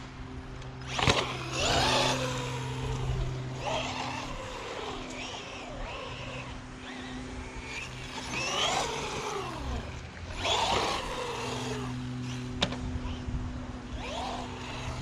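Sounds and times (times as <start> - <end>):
electric motor whining: 0.0 - 15.0
steady low hum: 0.0 - 15.0.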